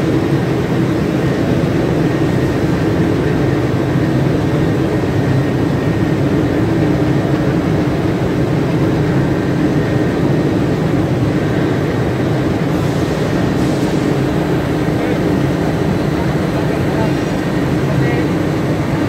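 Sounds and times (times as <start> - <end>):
printing machine droning: 0.0 - 19.0.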